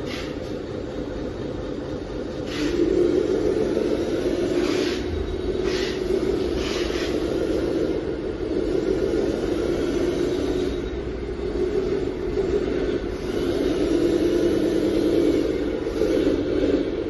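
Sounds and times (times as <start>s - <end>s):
model truck motor drone: 0.0s - 17.0s.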